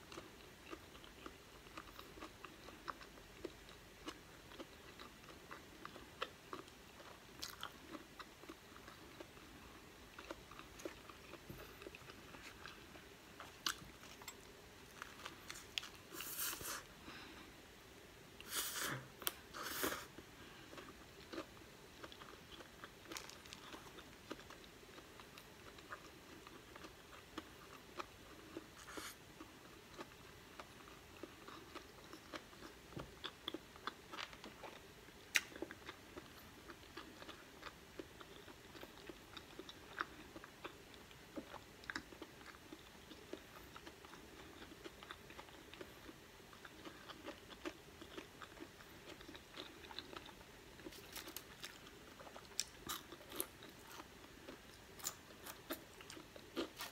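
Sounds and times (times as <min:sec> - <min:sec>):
person chewing food: 0:00.0 - 0:17.4, 0:18.4 - 0:56.9.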